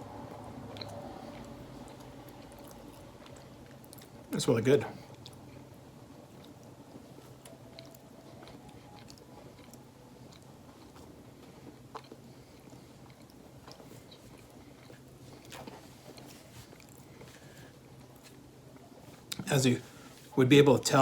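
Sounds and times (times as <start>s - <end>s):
steady low hum: 0.0s - 21.0s
person chewing a muffin: 0.2s - 4.3s, 4.9s - 19.4s.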